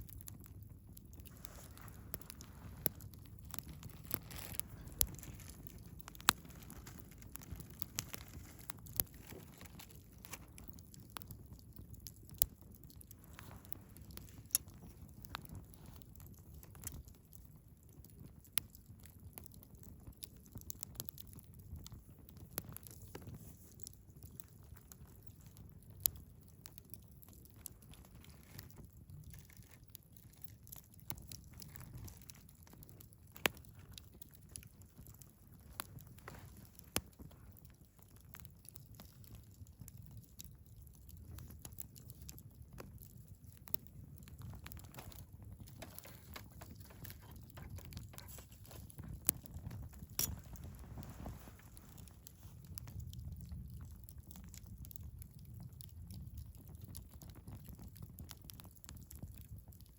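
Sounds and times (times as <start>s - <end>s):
campfire crackling and popping: 0.0s - 59.9s
low rumble of flames: 0.0s - 59.9s.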